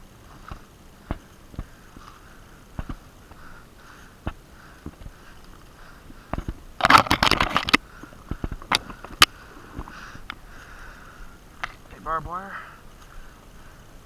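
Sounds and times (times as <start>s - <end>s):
rapid crackling clicks: 0.1s - 14.0s
heavy breathing through blocked nose: 0.3s - 6.5s, 7.8s - 11.6s, 12.5s - 14.0s.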